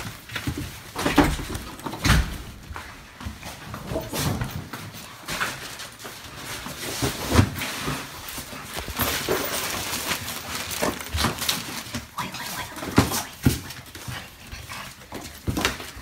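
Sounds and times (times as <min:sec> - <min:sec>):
footsteps: 0:00.0 - 0:16.0.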